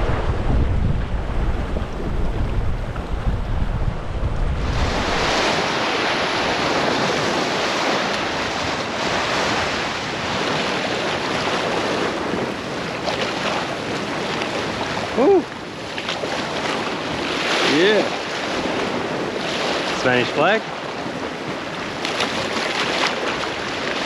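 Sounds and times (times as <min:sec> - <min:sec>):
waves splashing over rocks: 0:00.0 - 0:24.0.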